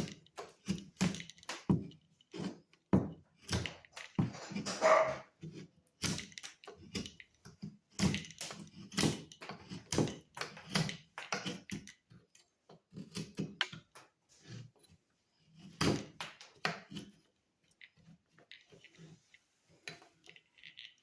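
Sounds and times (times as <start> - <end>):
objects knocking and tapping: 0.0 - 21.0.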